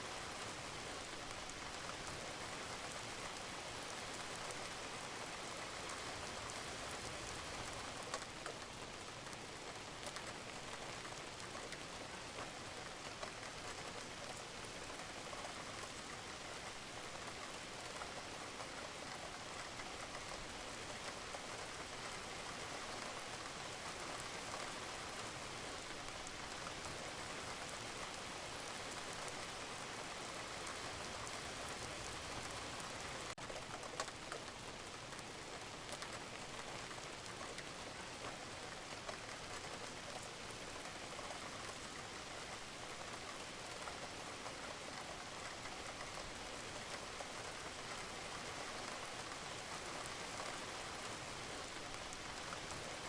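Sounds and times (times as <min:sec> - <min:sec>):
rain falling on a roof: 0:00.0 - 0:53.0
raindrop ticks: 0:00.2 - 0:53.0.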